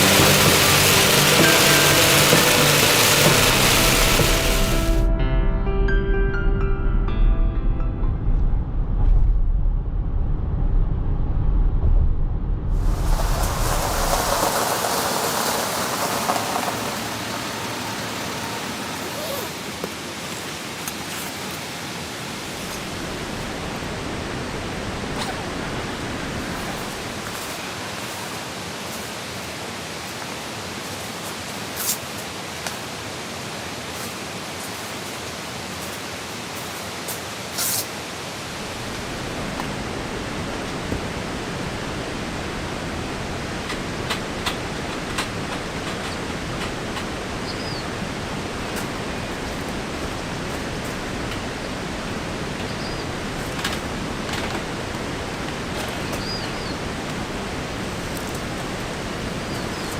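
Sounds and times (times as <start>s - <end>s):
rain falling: 0.0s - 5.1s, 12.7s - 59.9s.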